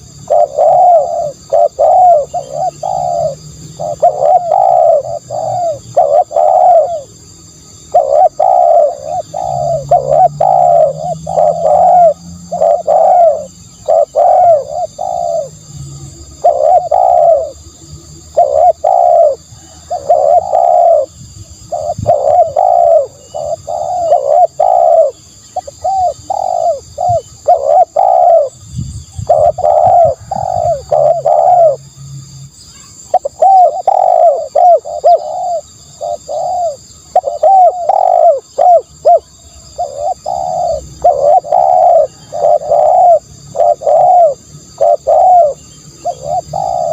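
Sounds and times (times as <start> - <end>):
dove cooing: 0.0 - 31.8, 32.8 - 46.9.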